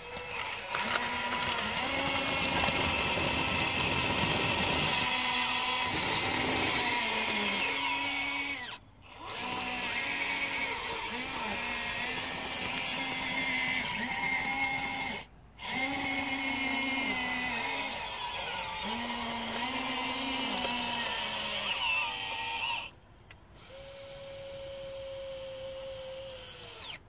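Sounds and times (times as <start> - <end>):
electric motors and hydraulics whining: 0.0 - 27.0.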